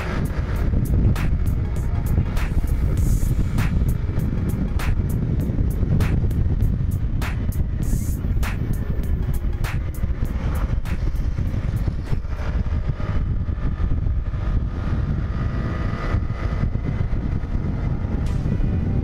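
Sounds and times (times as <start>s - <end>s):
scooter road and engine rumble: 0.0s - 19.0s
wind buffeting microphone: 0.0s - 19.0s.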